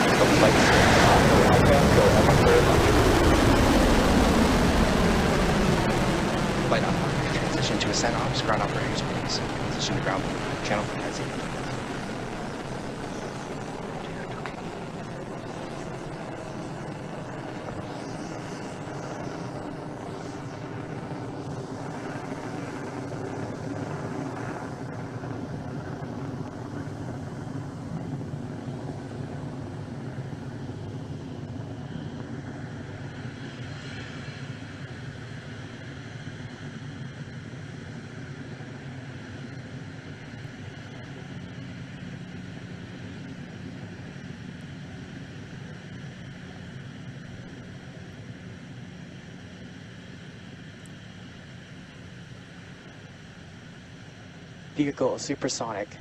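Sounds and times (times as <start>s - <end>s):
rocket engines roaring: 0.0s - 56.0s.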